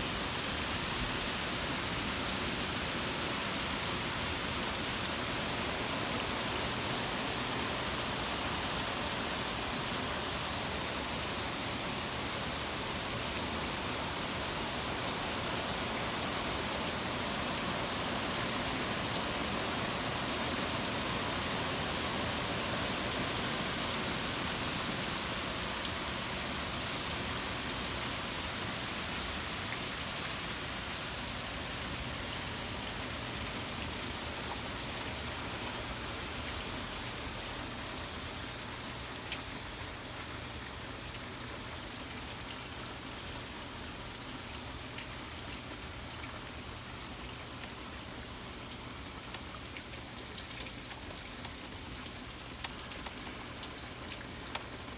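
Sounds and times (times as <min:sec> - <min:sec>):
torrential rain pouring: 0:00.0 - 0:54.9.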